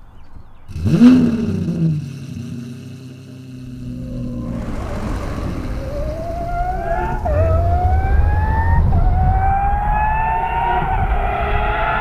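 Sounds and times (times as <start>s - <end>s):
car engine accelerating: 0.7s - 12.0s.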